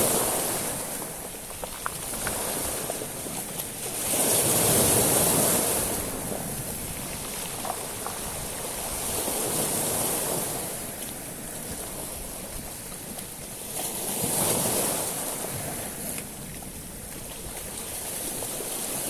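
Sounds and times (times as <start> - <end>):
sea waves washing over pebbles: 0.0 - 19.0.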